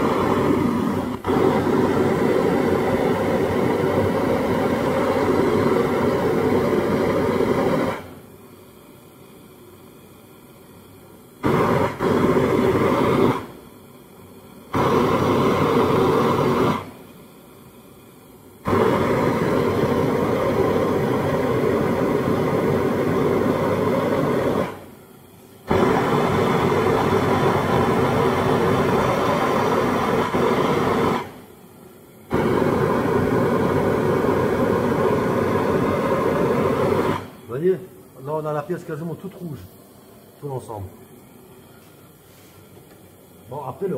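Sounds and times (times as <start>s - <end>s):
propane torch rushing: 0.0s - 43.9s.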